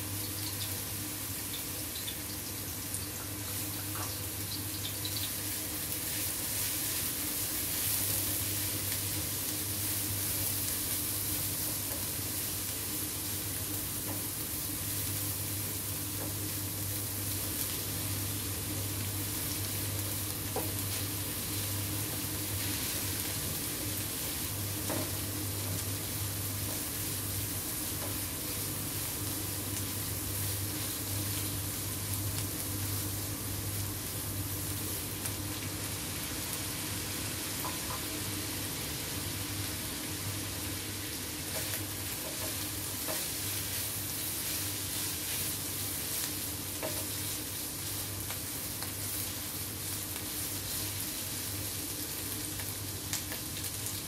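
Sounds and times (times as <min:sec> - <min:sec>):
meat and shrimp sizzling in wok: 0:00.0 - 0:54.0.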